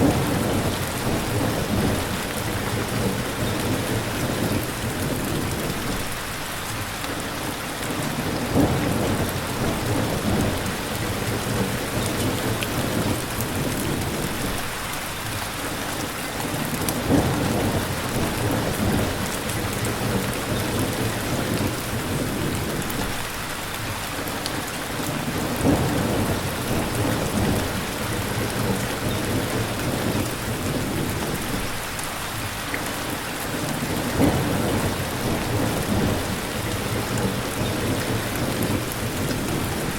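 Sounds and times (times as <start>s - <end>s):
low thunder rumbling: 0.0s - 6.2s, 7.9s - 14.8s, 16.5s - 23.3s, 25.1s - 31.9s, 33.5s - 39.9s
heavy rain: 0.0s - 39.9s.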